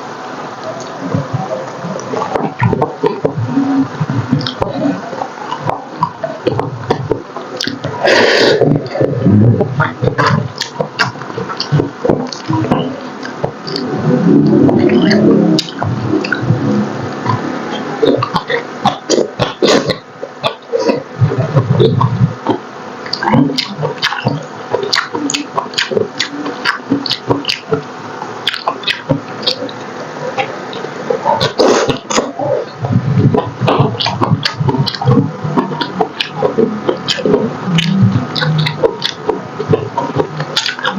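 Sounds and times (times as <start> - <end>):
person chewing: 0.6 - 40.9
wet lip smacking: 0.6 - 40.9.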